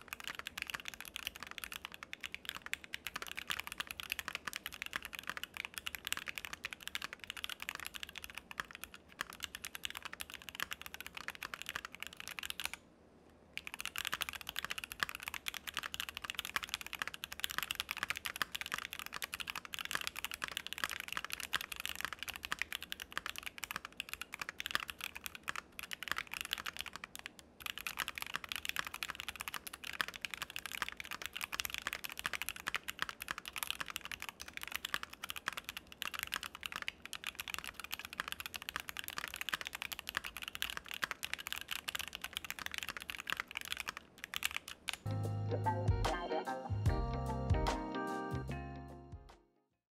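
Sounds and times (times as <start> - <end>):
fast typing on mechanical keyboard: 0.0 - 12.8, 13.6 - 45.1.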